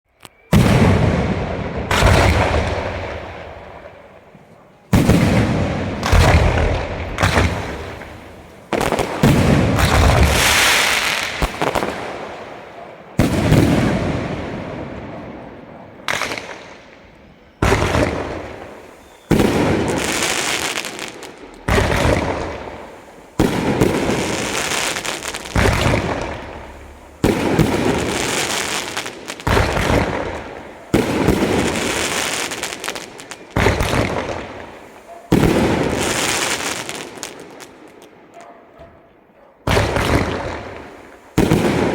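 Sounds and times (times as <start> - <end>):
fireworks bangs with echo: 0.4 - 38.4, 39.6 - 41.9.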